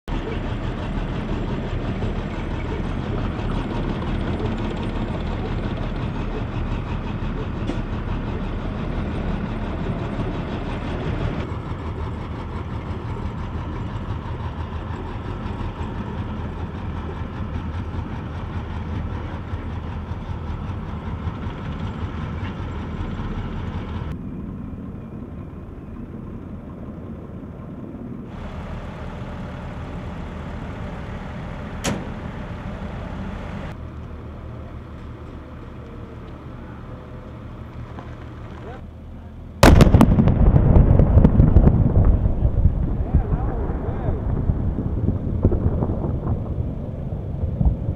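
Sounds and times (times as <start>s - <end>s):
tank engine rumbling: 0.1s - 47.9s.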